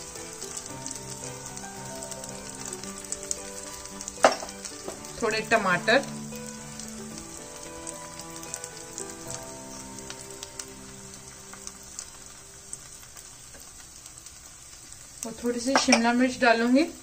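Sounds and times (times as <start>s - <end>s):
soft background music: 0.0s - 13.8s
batter sizzling on a hot griddle: 0.0s - 17.0s.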